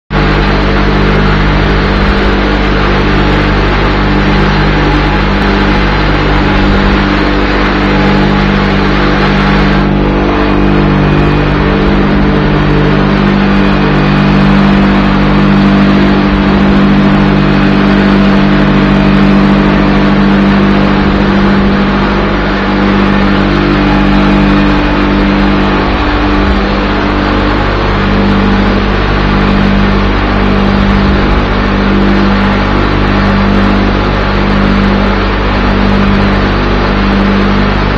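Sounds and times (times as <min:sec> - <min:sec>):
burner blower drone: 0:00.1 - 0:37.9
low hum: 0:00.1 - 0:37.9.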